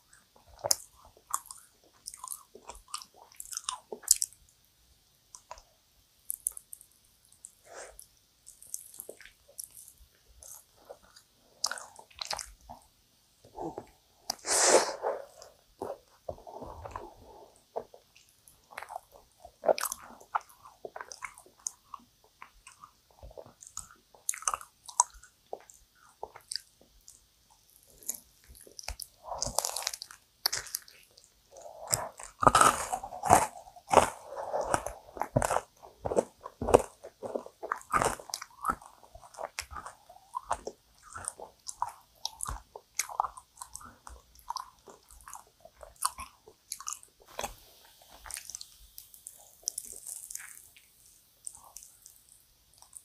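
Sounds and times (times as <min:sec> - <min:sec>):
biting and chewing sticky food: 0:00.0 - 0:04.4, 0:05.4 - 0:53.0.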